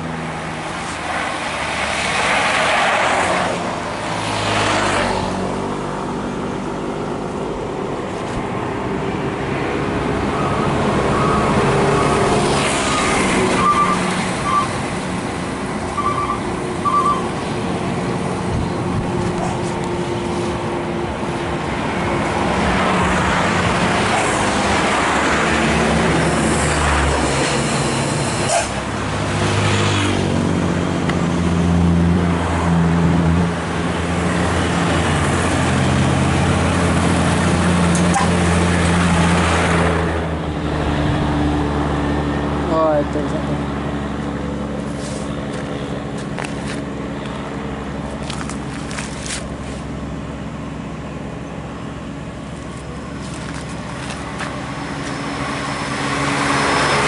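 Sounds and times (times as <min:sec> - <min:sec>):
trucks and buses passing: 0:00.0 - 0:57.0
diesel engine at low revs: 0:03.6 - 0:57.0.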